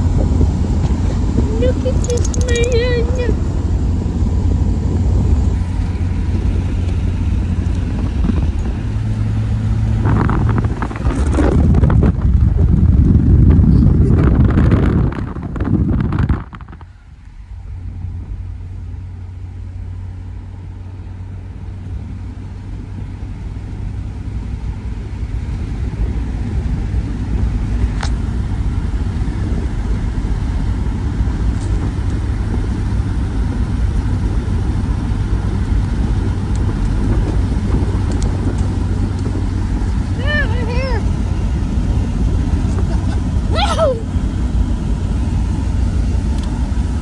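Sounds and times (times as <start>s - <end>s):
car engine humming: 0.0s - 16.5s, 17.8s - 47.0s.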